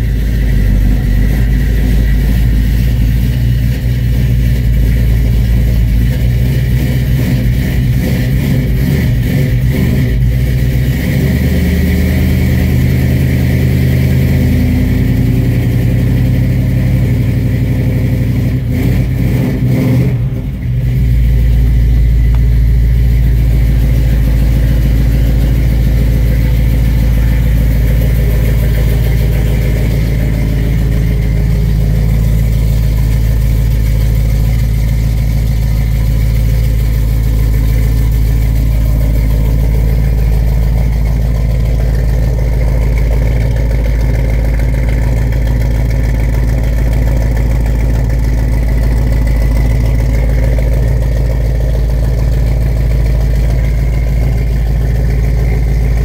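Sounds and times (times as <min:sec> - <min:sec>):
truck engine idling: 0:00.0 - 0:56.0.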